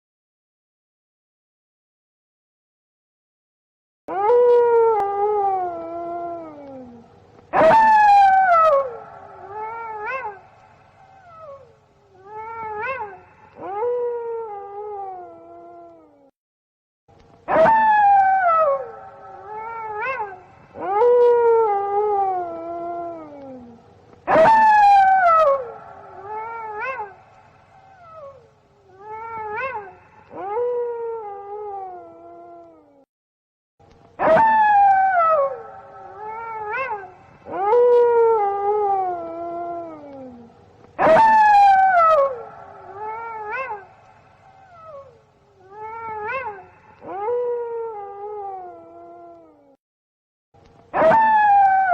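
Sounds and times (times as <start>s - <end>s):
wolves howling: 4.1s - 16.0s, 17.5s - 32.8s, 34.2s - 49.7s, 50.9s - 51.9s.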